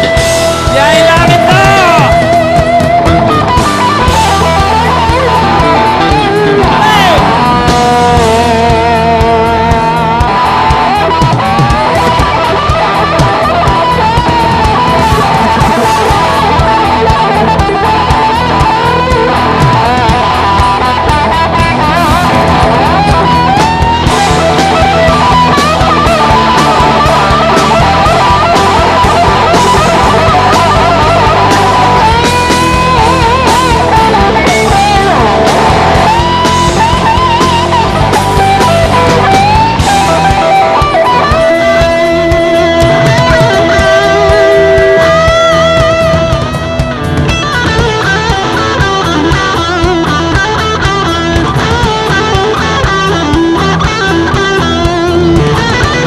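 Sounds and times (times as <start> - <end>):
bass: 0.0 - 56.0
drums: 0.0 - 56.0
electric guitar lead: 0.0 - 56.0
rhythm guitar: 0.0 - 56.0.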